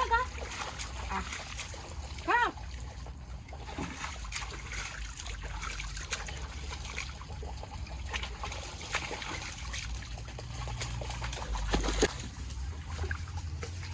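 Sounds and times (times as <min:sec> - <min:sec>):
water trickling and splashing: 0:00.0 - 0:13.9.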